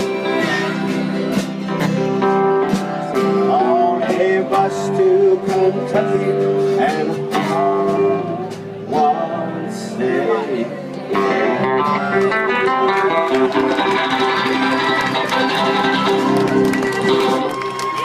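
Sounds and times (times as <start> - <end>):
acoustic guitars strumming: 0.0 - 17.7
country band playing: 0.0 - 18.0.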